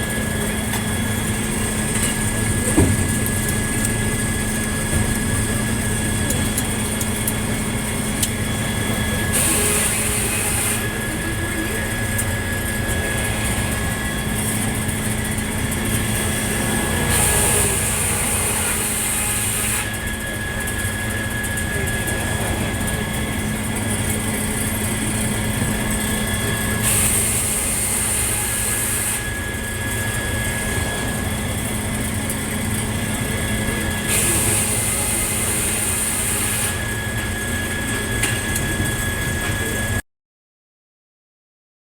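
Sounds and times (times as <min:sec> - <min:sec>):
sawmill machine hum: 0:00.0 - 0:40.0.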